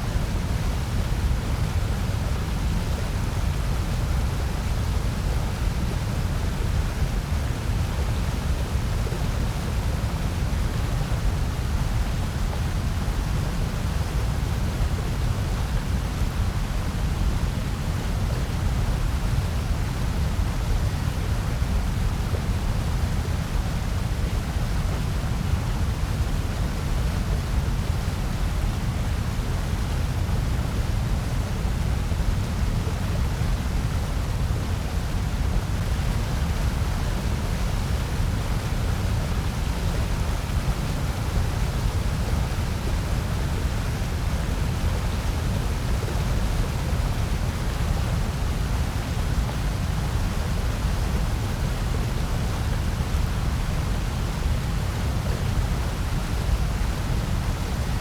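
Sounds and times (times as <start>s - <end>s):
electronic hiss with low rumble: 0.0s - 58.0s.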